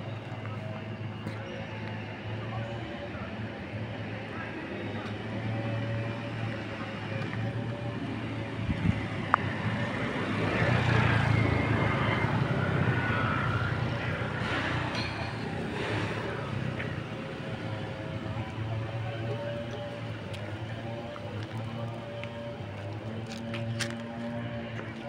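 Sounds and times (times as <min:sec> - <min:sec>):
road vehicle passing by: 0:04.2 - 0:25.0.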